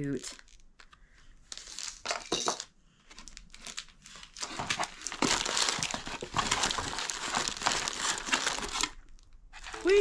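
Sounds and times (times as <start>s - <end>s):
plastic packaging crinkling: 0.0s - 2.4s, 3.0s - 10.0s.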